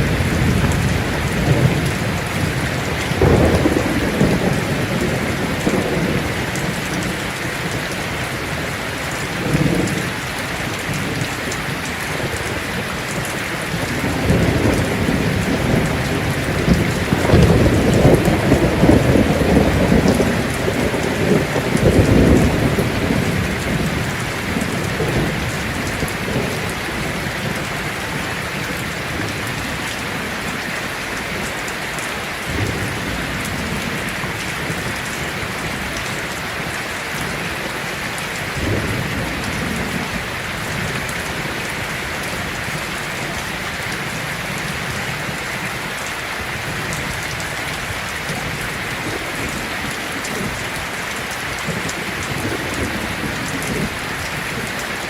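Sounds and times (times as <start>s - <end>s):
thunder rumbling: 0.0s - 30.7s, 32.5s - 45.8s, 46.5s - 55.0s
heavy rain on a tin roof: 0.0s - 55.0s.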